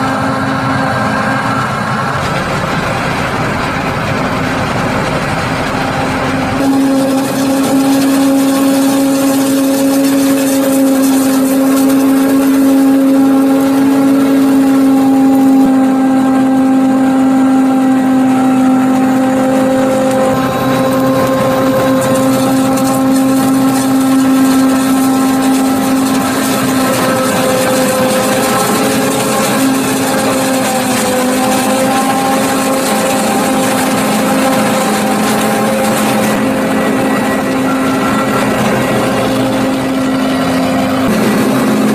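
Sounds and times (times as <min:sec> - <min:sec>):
forage harvester chopping corn: 0:00.0 - 0:41.9.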